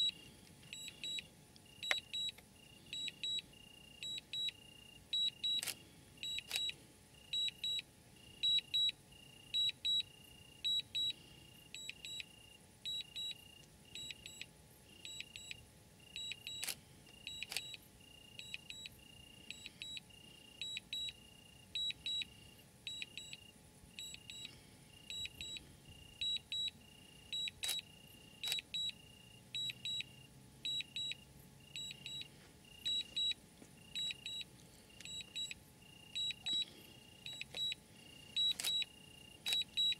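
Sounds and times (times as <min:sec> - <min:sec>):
insects chirping: 0:00.0 - 0:05.6, 0:06.2 - 0:39.9.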